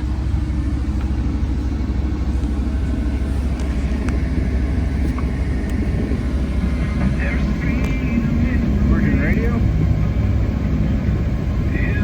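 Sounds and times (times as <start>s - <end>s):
excavator diesel engine rumbling: 0.0s - 12.0s.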